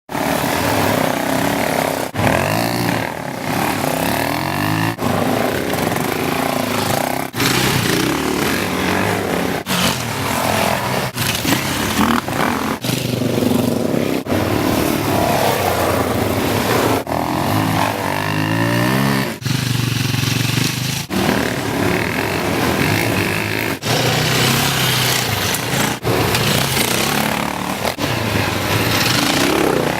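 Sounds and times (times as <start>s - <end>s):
dirt bike engine revving: 0.1s - 29.9s.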